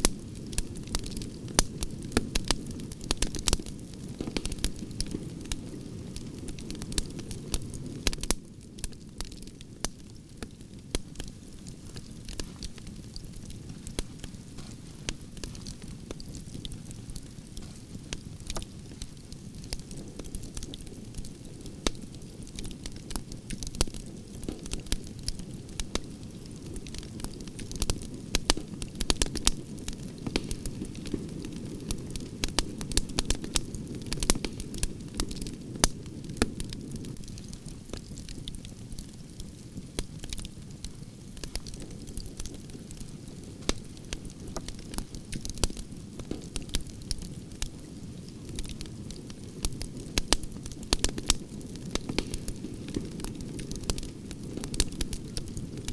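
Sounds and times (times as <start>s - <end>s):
fire crackles and pops: 0.0s - 55.9s
low rush of flames: 0.0s - 55.9s.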